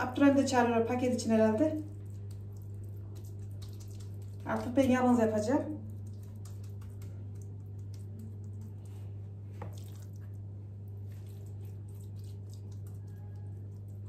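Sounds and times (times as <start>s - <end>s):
steady low hum: 0.0s - 14.0s
hands squishing and patting dough: 1.0s - 14.0s.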